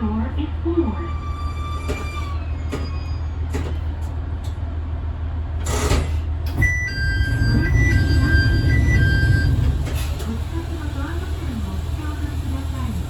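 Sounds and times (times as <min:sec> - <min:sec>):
diesel railcar engine drone: 0:00.0 - 0:13.0.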